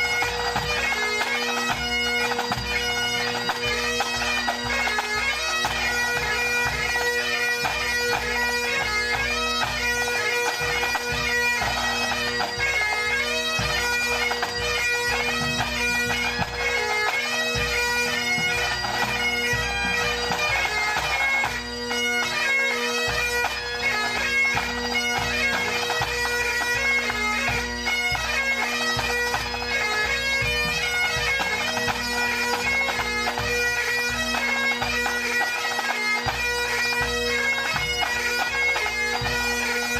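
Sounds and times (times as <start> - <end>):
bagpipes playing melody: 0.0 - 39.9.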